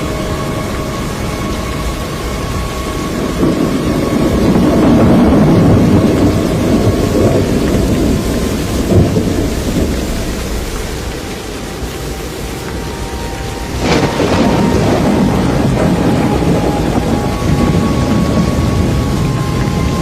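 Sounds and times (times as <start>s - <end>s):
storm wind roaring: 0.0s - 20.0s.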